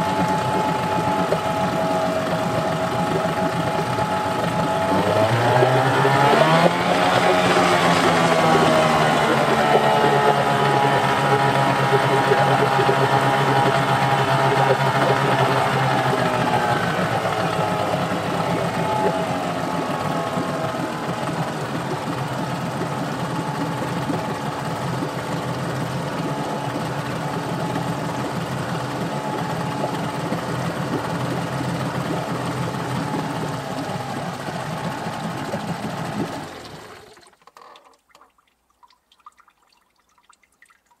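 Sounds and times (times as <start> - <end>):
outboard engine running: 0.0 - 37.8
propeller churning water: 0.0 - 41.0.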